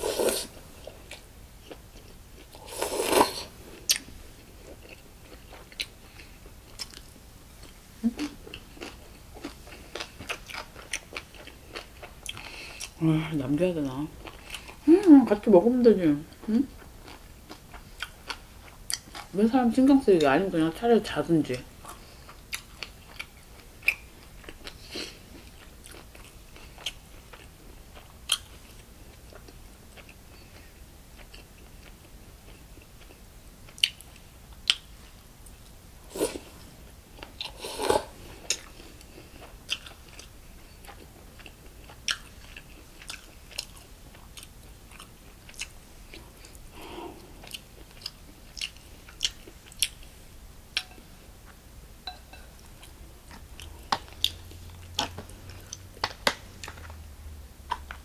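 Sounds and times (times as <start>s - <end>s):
chewing and crunching food: 0.8s - 13.0s, 13.8s - 14.9s, 16.3s - 19.4s, 21.6s - 35.8s, 38.2s - 46.6s, 47.2s - 50.2s, 52.6s - 57.0s.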